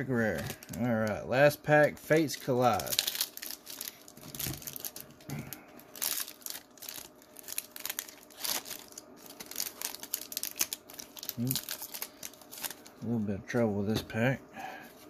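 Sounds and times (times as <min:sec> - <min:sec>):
foil wrapper crinkling and tearing: 0:00.2 - 0:13.0.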